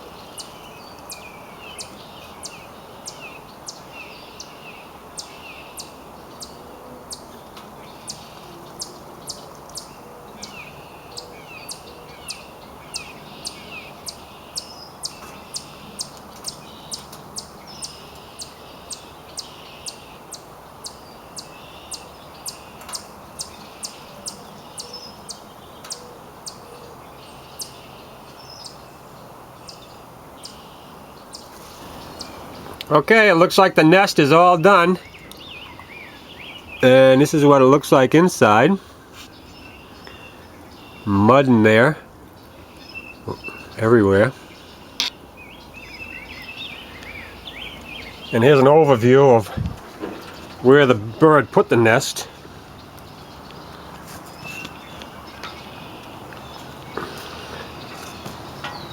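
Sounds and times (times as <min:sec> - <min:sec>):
soft bird chirping: 0:00.0 - 0:33.0, 0:34.4 - 0:37.3, 0:38.5 - 0:58.9
background hiss: 0:00.0 - 0:58.9.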